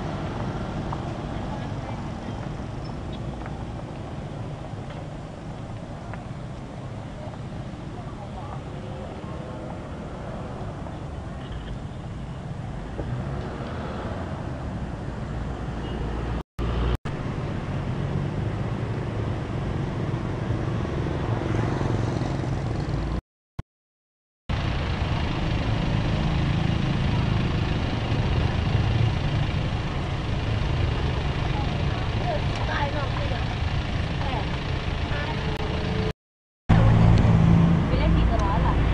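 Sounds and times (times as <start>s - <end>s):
traffic rumble: 0.0s - 23.2s, 24.5s - 36.1s, 36.7s - 38.9s
truck engine and road noise: 0.0s - 23.2s, 24.5s - 38.9s.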